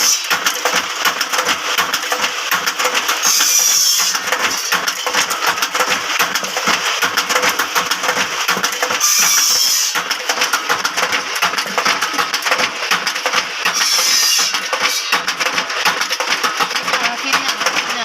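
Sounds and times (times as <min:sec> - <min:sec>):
machine clattering rapidly: 0:00.0 - 0:18.0.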